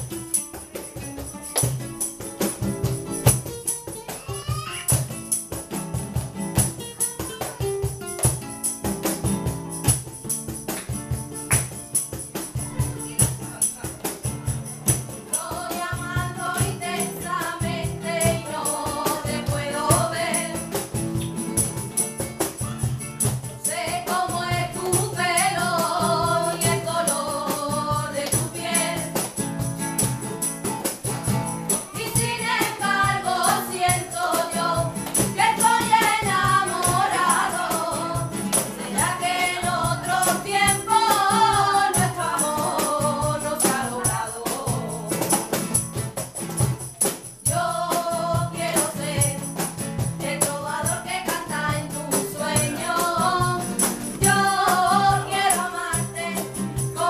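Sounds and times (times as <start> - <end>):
quick percussion: 0.0 - 57.0
strummed flamenco guitar: 0.0 - 57.0.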